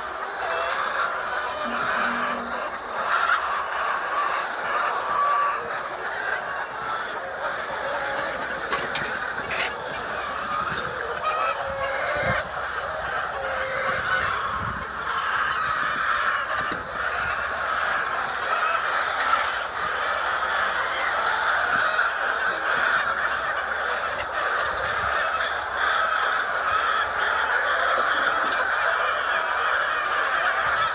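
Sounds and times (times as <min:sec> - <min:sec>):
chickens squawking and clucking: 0:00.0 - 0:30.9.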